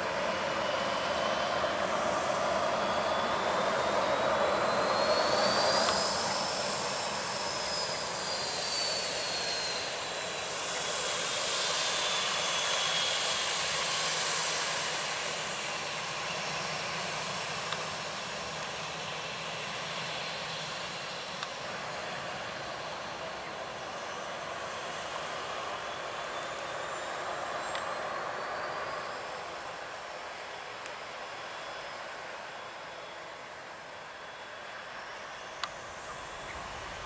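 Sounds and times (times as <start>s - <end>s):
airliner engines rushing: 0.0s - 37.0s
high engine whine: 0.0s - 37.0s.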